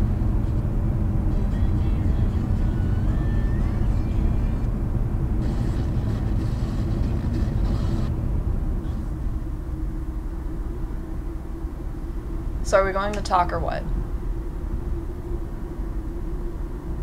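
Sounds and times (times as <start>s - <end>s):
car cabin road and engine rumble: 0.0s - 17.0s
faint rising tone: 2.8s - 17.0s.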